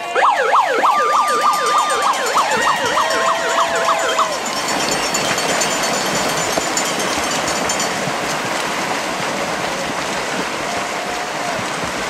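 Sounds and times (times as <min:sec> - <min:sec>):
swimmers splashing: 0:00.0 - 0:12.0.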